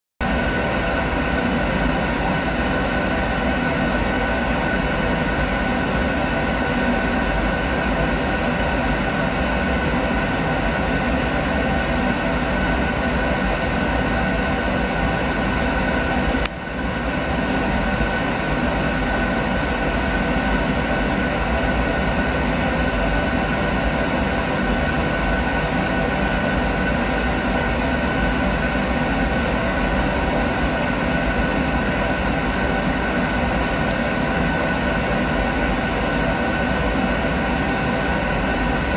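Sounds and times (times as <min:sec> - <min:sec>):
gas burner blower noise: 0:00.2 - 0:38.9.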